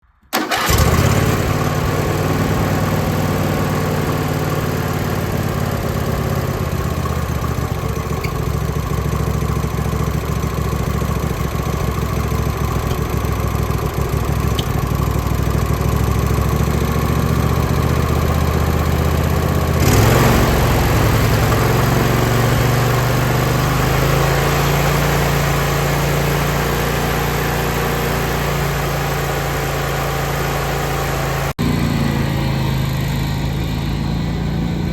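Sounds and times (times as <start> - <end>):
riding lawn mower engine: 0.3 - 34.9.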